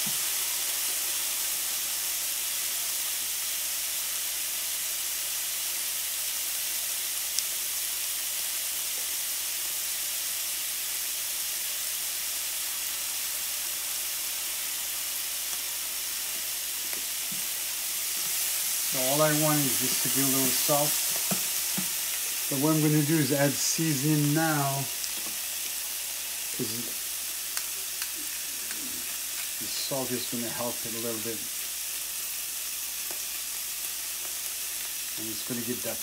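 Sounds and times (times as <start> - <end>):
vegetables sizzling in a pan: 0.0 - 36.0.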